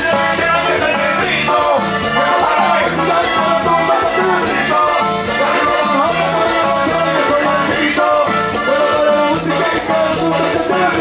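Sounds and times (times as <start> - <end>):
accordion: 0.0 - 11.0
bass: 0.0 - 11.0
drums: 0.0 - 11.0
man singing: 0.0 - 11.0.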